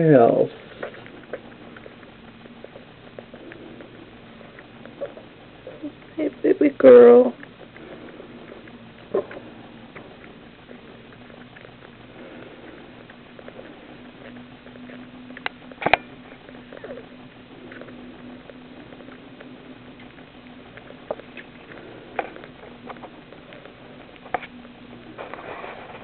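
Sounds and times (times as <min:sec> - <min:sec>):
steady low hum: 0:00.0 - 0:26.0
kitten suckling clicks: 0:00.2 - 0:25.3.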